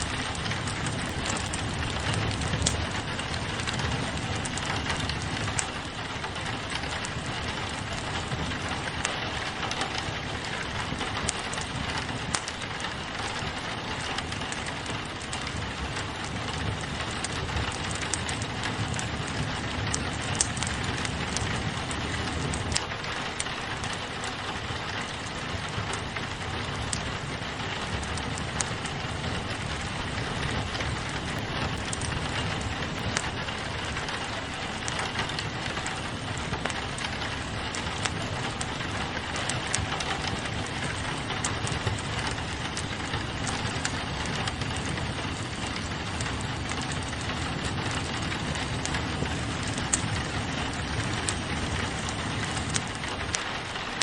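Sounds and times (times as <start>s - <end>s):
rain on a window: 0.0s - 54.0s
wood fire crackling: 0.0s - 54.0s.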